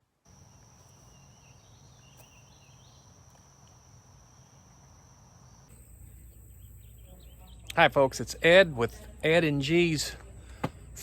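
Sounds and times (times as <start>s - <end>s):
crickets trilling: 0.2s - 11.0s
faint chirps: 0.3s - 9.1s.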